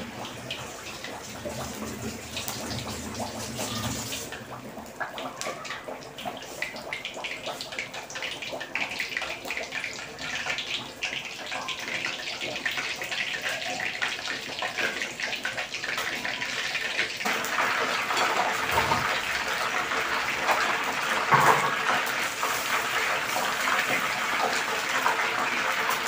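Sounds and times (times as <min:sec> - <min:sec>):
fish deep-frying in oil: 0:00.0 - 0:26.0
oil bubbling: 0:00.0 - 0:26.0.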